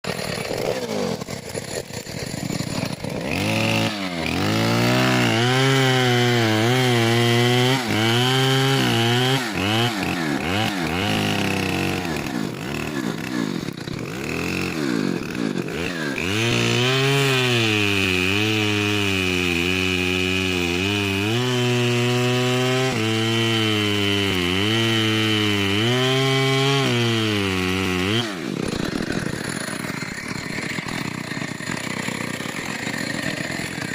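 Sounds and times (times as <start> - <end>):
chainsaw cutting tree trunk: 0.0 - 33.9.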